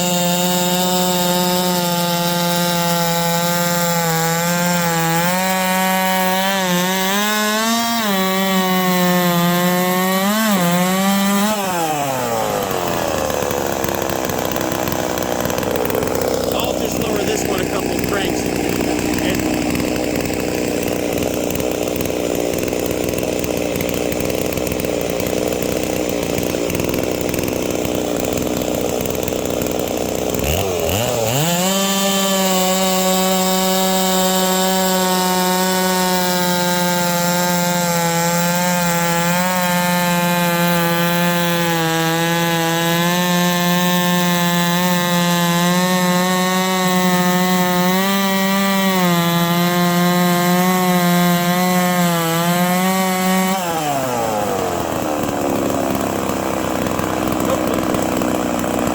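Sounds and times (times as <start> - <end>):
chainsaw ripping a log: 0.0 - 58.9.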